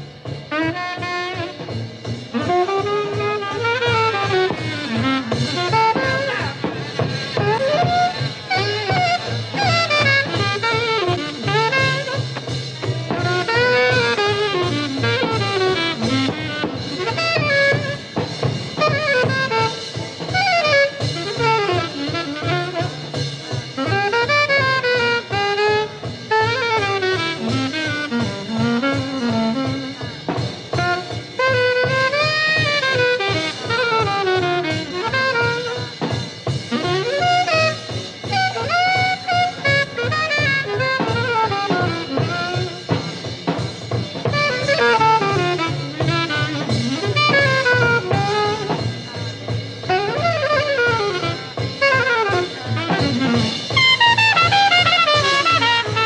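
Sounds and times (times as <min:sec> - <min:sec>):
jazz drums: 0:00.0 - 0:56.0
jazz horn melody: 0:00.0 - 0:56.0
walking bass: 0:00.0 - 0:56.0.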